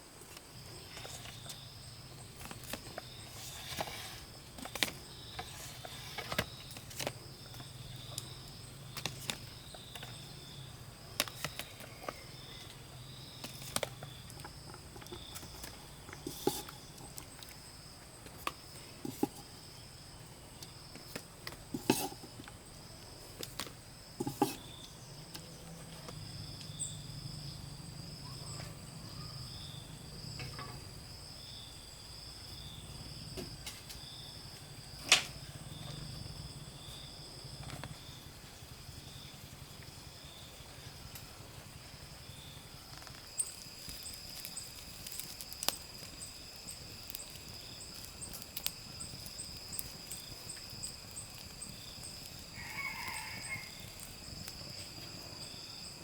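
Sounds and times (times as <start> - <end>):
insects chirping in trills: 0.0 - 56.0.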